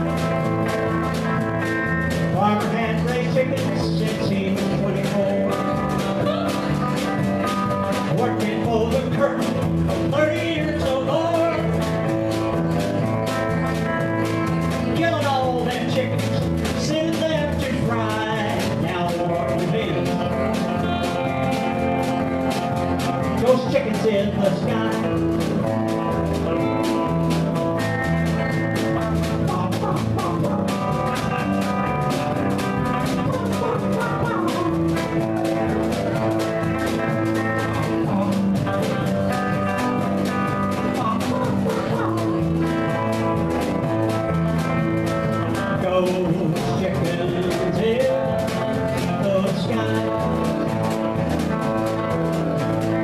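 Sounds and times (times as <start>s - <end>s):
electric bass: 0.0s - 53.0s
steady drum beat: 0.0s - 53.0s
strummed acoustic guitars: 0.0s - 53.0s.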